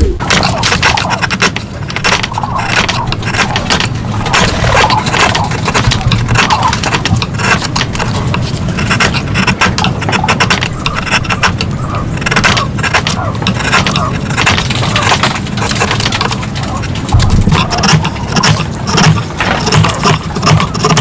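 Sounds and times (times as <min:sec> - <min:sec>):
low rumble: 0:00.0 - 0:20.5
hand tools scraping wood: 0:00.2 - 0:21.0.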